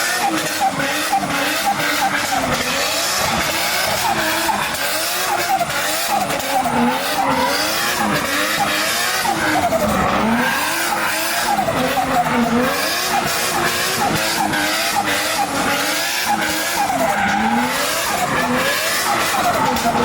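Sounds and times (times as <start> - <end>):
car engine revving hard: 0.0 - 20.0
tyres squealing: 0.1 - 20.0.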